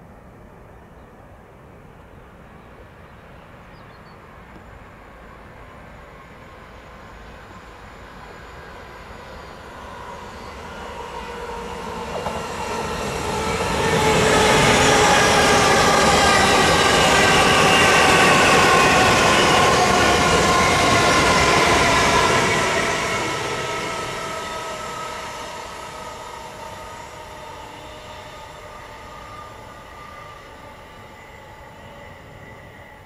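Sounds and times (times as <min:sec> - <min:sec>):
train running past: 0:00.0 - 0:33.0.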